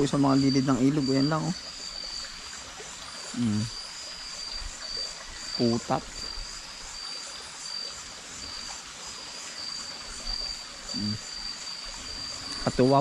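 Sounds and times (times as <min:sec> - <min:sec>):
faint hiss: 0:00.0 - 0:13.0
higher pulsing insect call: 0:00.0 - 0:13.0
insects trilling: 0:00.0 - 0:13.0.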